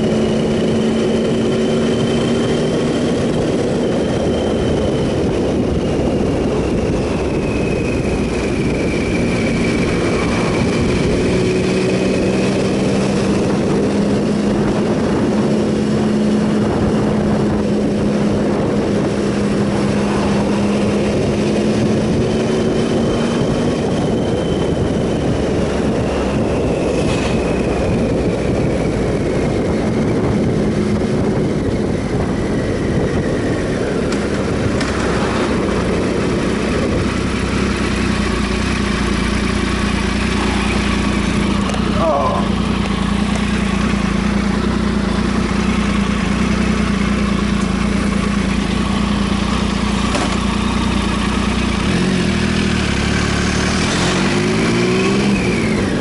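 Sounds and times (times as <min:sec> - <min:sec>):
wind rushing: 0:00.0 - 0:49.5
motorcycle engine running: 0:00.0 - 0:56.0.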